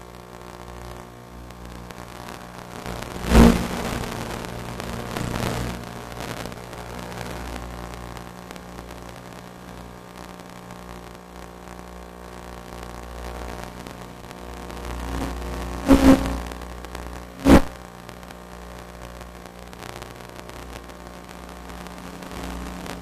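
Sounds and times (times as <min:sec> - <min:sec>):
low hum of steady tones: 0:00.0 - 0:23.0
steady hiss: 0:00.1 - 0:23.0
loud crackles: 0:00.2 - 0:23.0.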